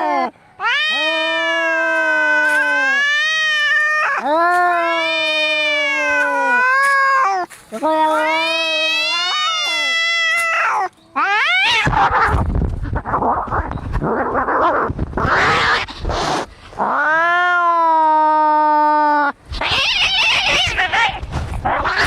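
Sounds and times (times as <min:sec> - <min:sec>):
cat yowling: 0:00.0 - 0:12.4, 0:14.3 - 0:22.0
cats screeching and hissing: 0:00.0 - 0:22.0.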